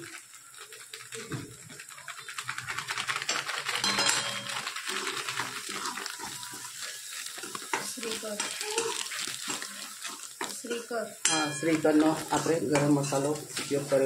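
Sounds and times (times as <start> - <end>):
plastic packet crinkling: 0.0 - 14.0
vegetables frying crackle: 0.0 - 14.0.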